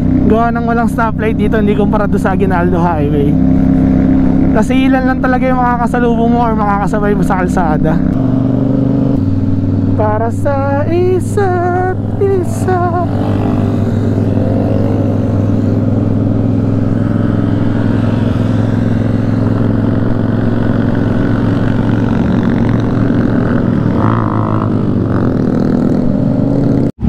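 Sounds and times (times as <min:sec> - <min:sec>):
motorcycle engine cruising: 0:00.0 - 0:27.0
road noise: 0:00.0 - 0:27.0.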